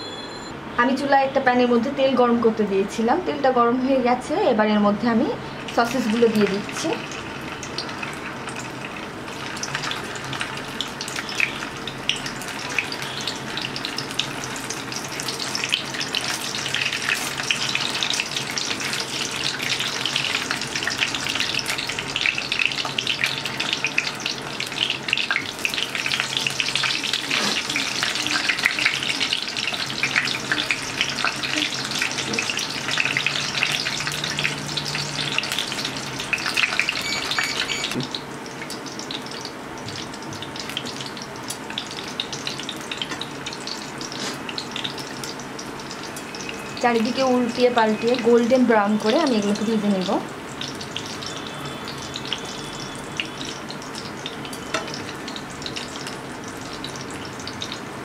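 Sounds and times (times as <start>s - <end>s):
sausages sizzling in frying pan: 4.2s - 58.0s.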